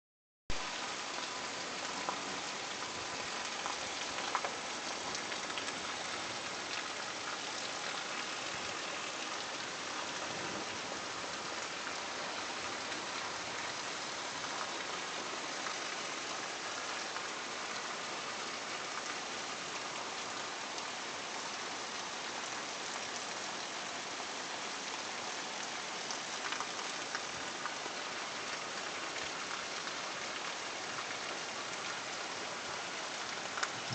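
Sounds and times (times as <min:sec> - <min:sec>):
steady rain hiss: 0:00.5 - 0:33.9.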